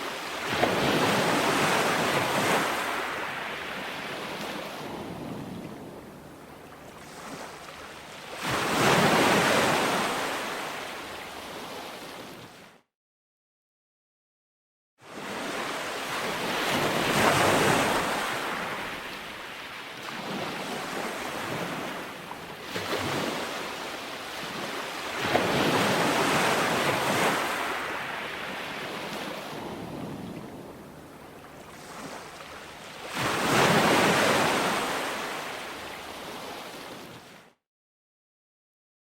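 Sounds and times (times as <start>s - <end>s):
ocean waves breaking: 0.0s - 12.8s, 15.1s - 37.6s.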